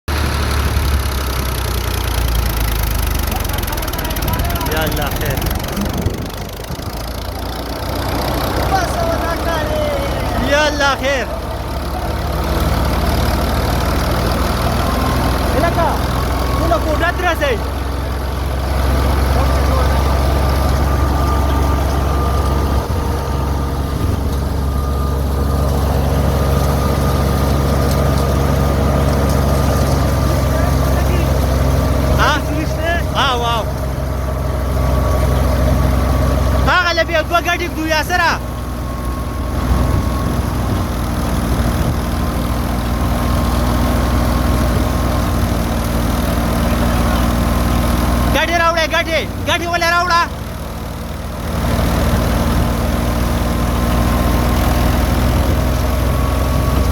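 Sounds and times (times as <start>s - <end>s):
thresher engine droning: 0.1s - 56.9s.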